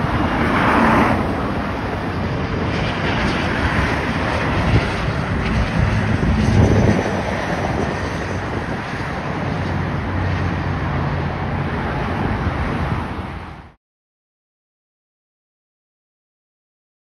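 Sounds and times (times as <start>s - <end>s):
wind buffeting microphone: 0.0s - 13.7s
jet engine rush: 0.0s - 13.8s.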